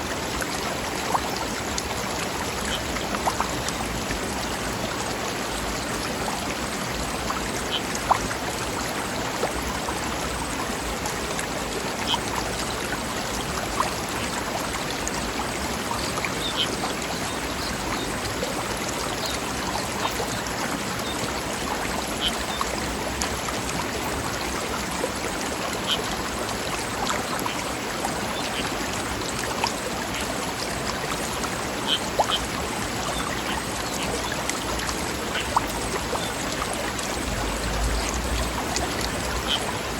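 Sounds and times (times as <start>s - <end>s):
small water splashes: 0.0s - 39.9s
stream flowing over rocks: 0.0s - 39.9s.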